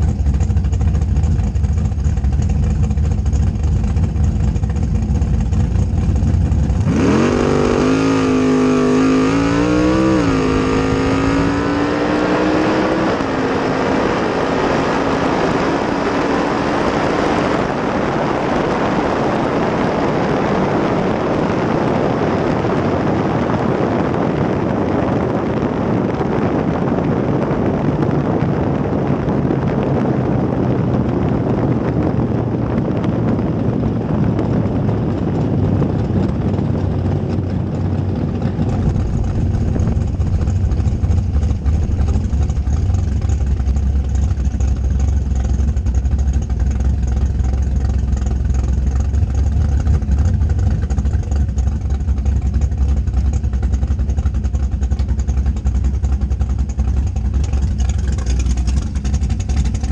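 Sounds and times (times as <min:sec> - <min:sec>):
drag car engine revving: 0:00.0 - 0:28.0, 0:31.0 - 0:59.9
wind and tyres rushing: 0:00.0 - 0:59.9.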